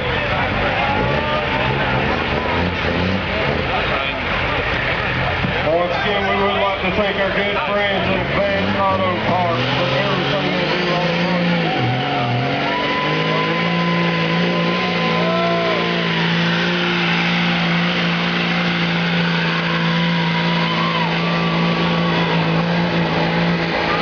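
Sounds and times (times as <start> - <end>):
diesel truck engine at high revs: 0.0 - 24.0.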